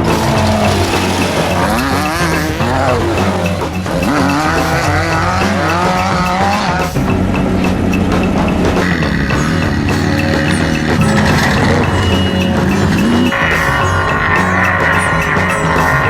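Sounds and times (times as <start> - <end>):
music with ticking beat: 0.0 - 16.0
truck engines revving: 0.0 - 16.0.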